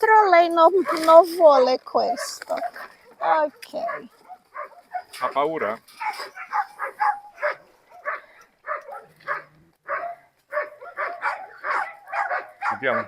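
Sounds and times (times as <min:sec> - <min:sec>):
dogs barking: 0:00.8 - 0:01.2, 0:02.0 - 0:13.0.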